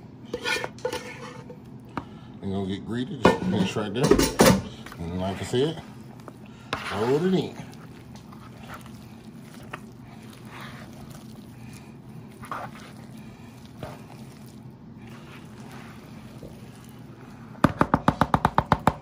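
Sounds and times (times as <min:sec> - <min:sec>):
steady low hum: 0:00.0 - 0:19.0
spoon squishing food in bowl: 0:03.6 - 0:19.0.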